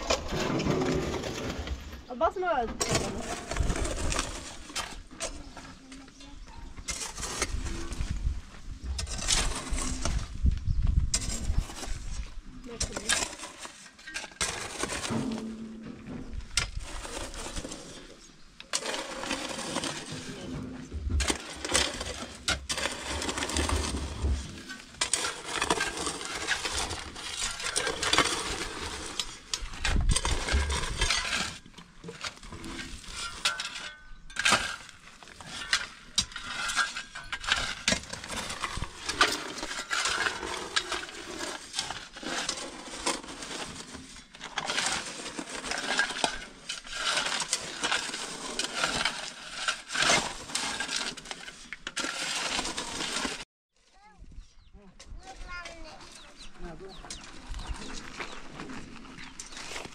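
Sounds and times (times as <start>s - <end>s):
shovels scraping stony soil: 0.0s - 53.5s, 55.0s - 59.9s.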